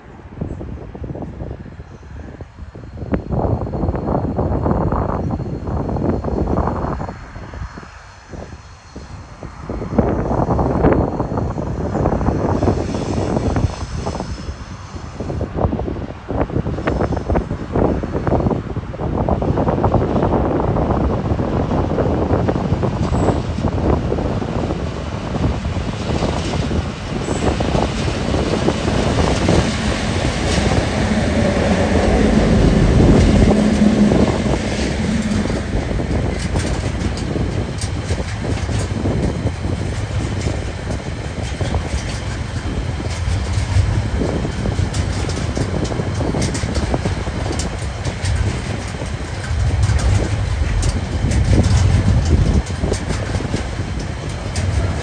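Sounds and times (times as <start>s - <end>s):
diesel locomotive engines humming: 0.0s - 55.0s
train wheels clicking on rails: 2.6s - 55.0s.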